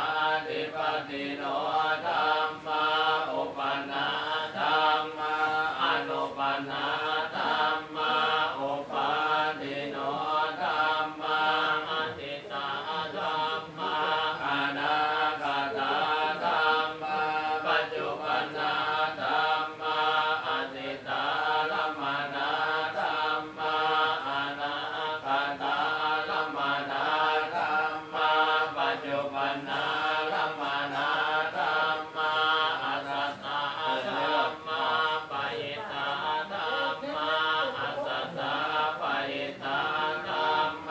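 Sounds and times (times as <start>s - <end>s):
group chanting in unison: 0.0s - 40.9s.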